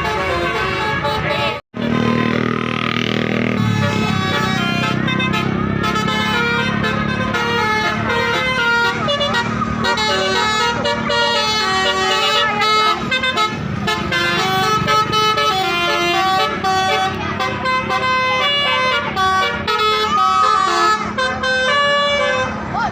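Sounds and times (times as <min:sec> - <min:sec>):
musical air horn melody: 0:00.0 - 0:22.6.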